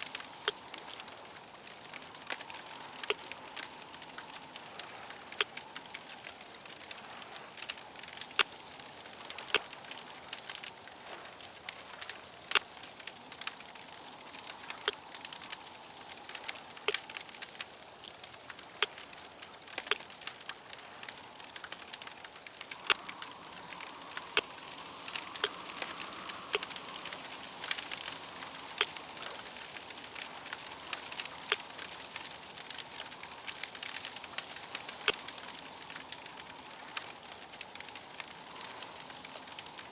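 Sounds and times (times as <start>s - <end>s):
fire hissing: 0.0s - 39.9s
fire popping: 0.0s - 39.9s.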